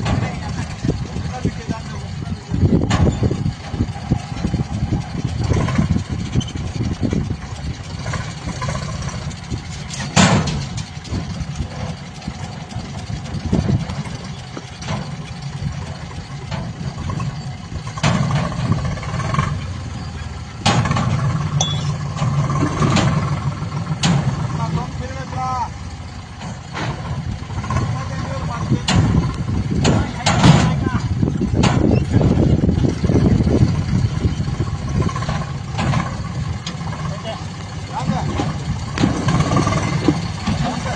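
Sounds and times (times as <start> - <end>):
diesel digger engine working: 0.0 - 40.9.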